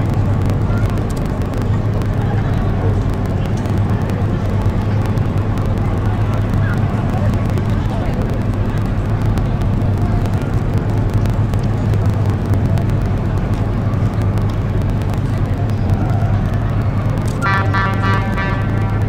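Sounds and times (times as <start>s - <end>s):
ship engine drone: 0.0s - 19.0s.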